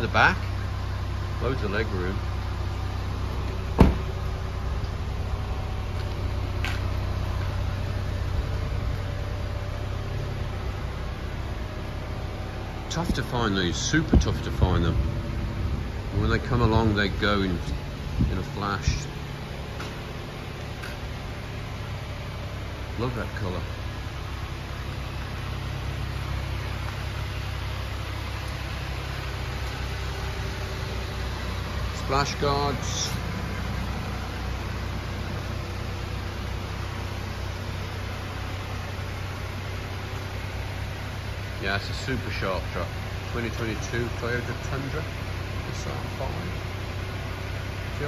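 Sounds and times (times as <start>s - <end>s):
engine idling: 0.0s - 48.0s
low mechanical rumble: 0.0s - 48.0s.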